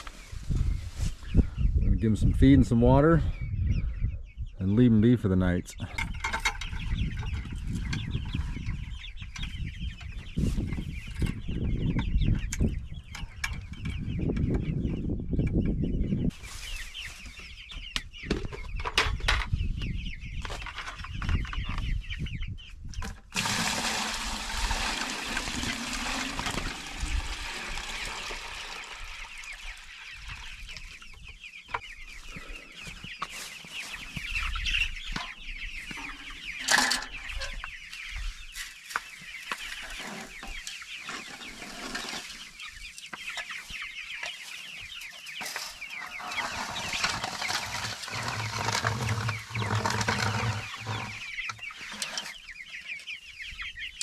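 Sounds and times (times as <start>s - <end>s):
chicks chirping: 3.2s - 23.3s, 29.0s - 54.0s.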